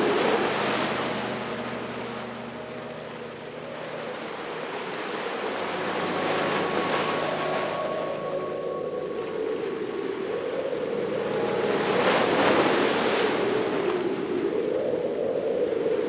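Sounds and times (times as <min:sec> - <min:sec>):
ocean waves washing ashore: 0:00.0 - 0:16.0.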